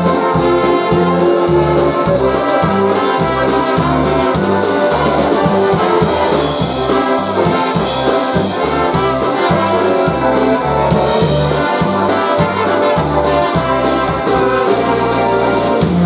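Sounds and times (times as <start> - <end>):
polka band playing: 0.0 - 16.0
steady bass beat: 0.0 - 16.0.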